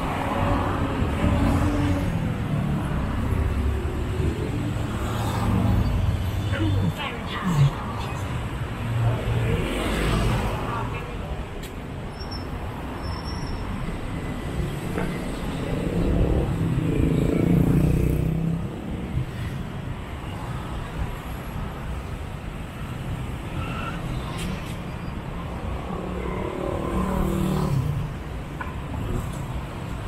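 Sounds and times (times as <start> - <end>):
vehicles passing on street: 0.0 - 30.0.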